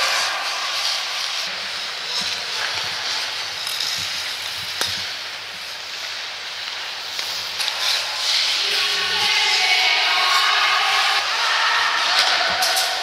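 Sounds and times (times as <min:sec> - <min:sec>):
skate blades scraping on ice: 0:00.0 - 0:13.0.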